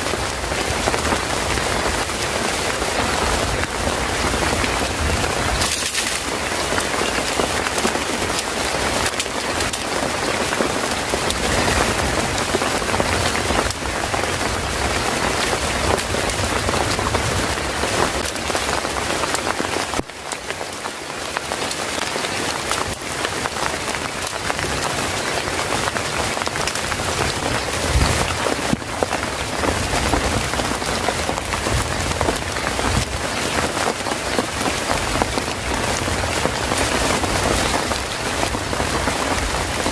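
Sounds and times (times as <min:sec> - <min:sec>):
heavy rain hitting a surface: 0:00.0 - 0:39.9.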